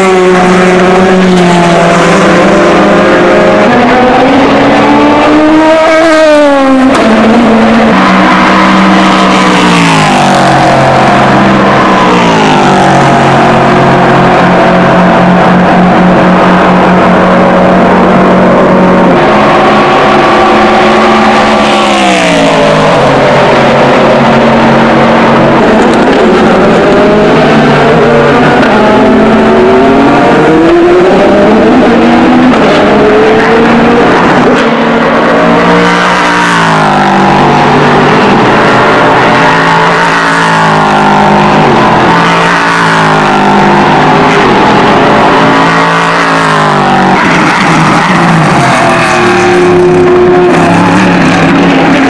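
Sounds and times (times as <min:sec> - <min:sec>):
racing car engine passing by: 0:00.0 - 0:52.0.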